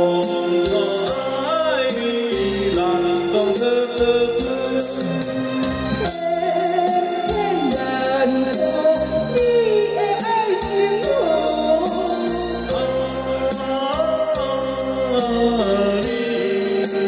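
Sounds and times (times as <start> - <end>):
backing music with steady beat: 0.0 - 17.0
man and woman singing duet: 0.0 - 17.0.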